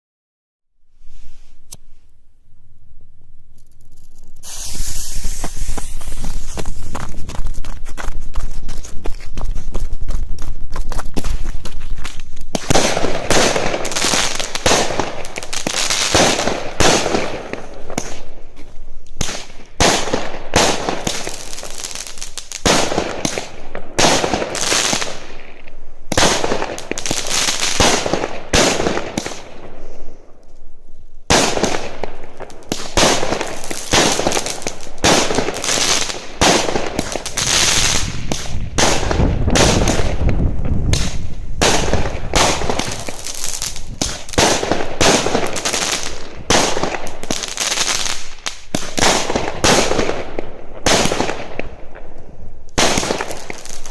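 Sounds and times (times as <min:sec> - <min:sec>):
fireworks bangs and crackles: 0:03.6 - 0:07.9, 0:10.7 - 0:30.2, 0:31.2 - 0:53.9.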